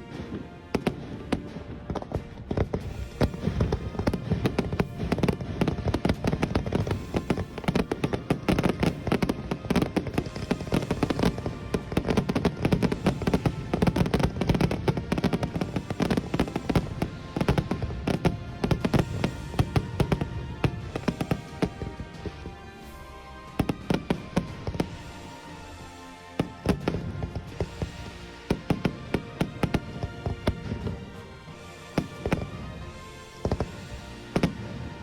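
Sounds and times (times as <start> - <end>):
fireworks bangs and crackles: 0.0 - 35.0
music: 0.0 - 35.0.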